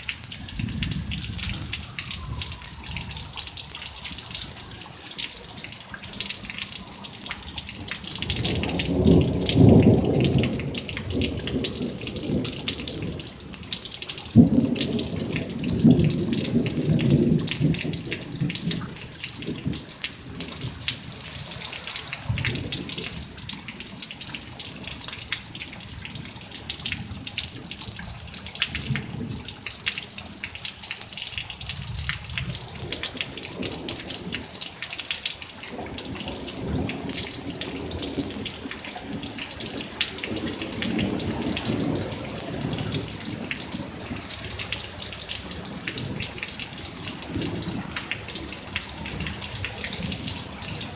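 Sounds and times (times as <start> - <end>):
gushing water: 0.0 - 50.9
rain drops falling: 0.0 - 50.9.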